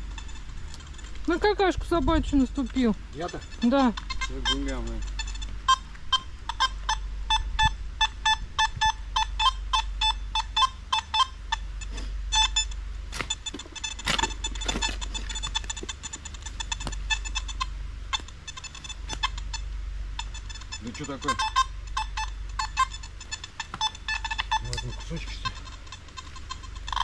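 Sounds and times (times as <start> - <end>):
metal detector beeping: 0.0 - 27.0.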